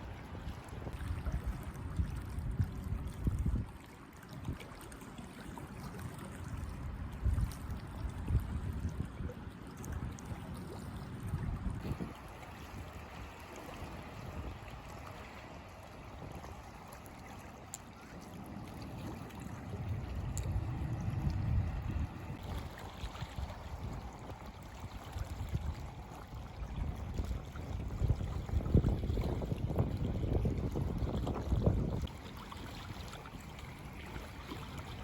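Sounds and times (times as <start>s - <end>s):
wind buffeting microphone: 0.0s - 4.6s, 5.8s - 35.0s
sea water washing: 0.0s - 35.0s.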